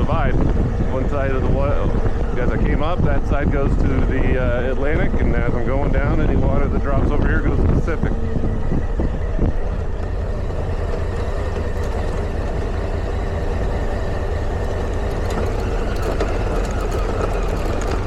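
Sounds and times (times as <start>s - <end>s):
motorcycle engine: 0.0s - 18.0s.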